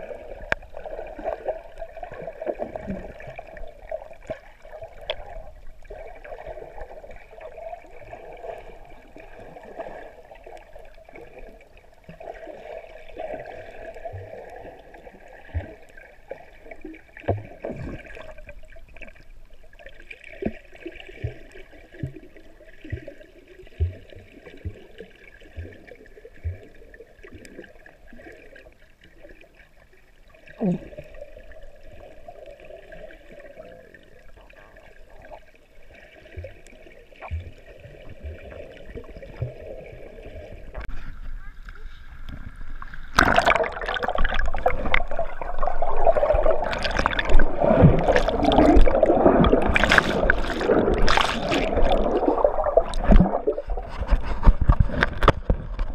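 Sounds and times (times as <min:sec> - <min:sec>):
water gurgling and sloshing: 0:00.0 - 0:55.9.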